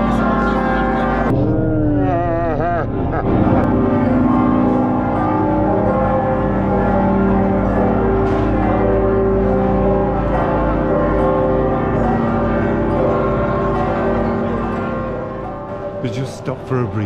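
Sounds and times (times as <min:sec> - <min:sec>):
church bells ringing: 0:00.0 - 0:01.4, 0:03.0 - 0:17.0.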